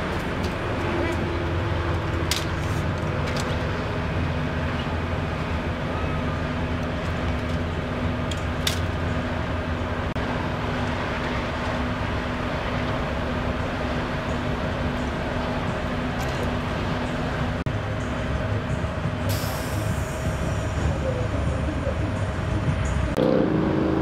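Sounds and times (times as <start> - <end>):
freeway traffic rumble: 0.0 - 24.0.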